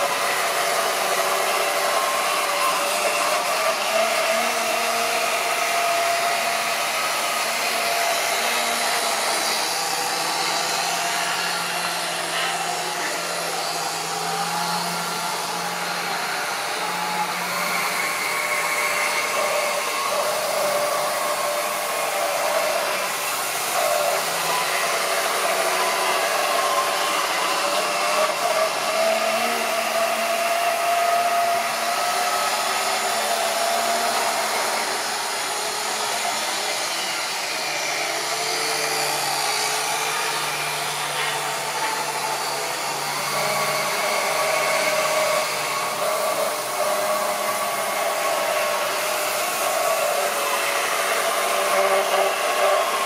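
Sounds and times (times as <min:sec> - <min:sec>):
model train motor whirring: 0:00.0 - 0:53.0.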